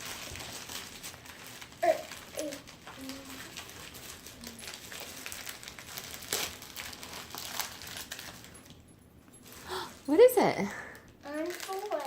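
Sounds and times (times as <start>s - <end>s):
gift wrapping crinkling: 0.0s - 12.0s.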